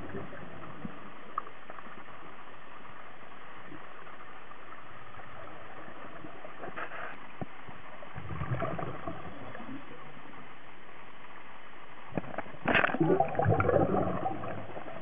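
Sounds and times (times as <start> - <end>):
steady hiss: 0.0 - 13.0
water sloshing and gurgling: 0.0 - 15.0.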